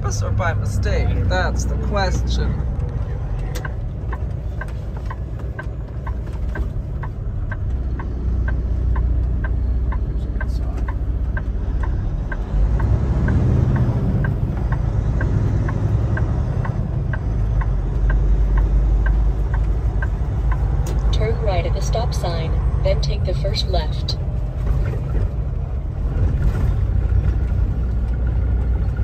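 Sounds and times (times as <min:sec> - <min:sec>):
diesel engine rumble: 0:00.0 - 0:29.0
turn signal clicking: 0:00.1 - 0:24.3, 0:27.0 - 0:29.0.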